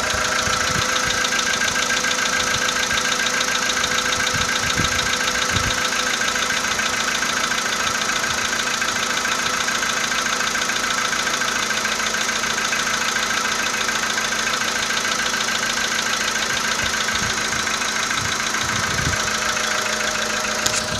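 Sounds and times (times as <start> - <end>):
car engine idling with knock: 0.0 - 20.9.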